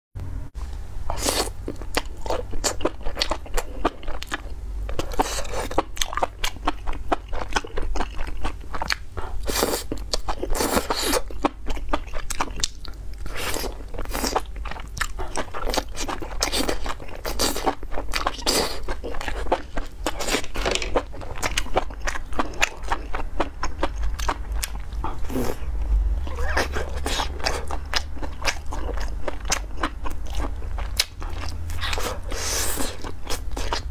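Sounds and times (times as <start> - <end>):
biting crunching and chewing: 1.1 - 33.9.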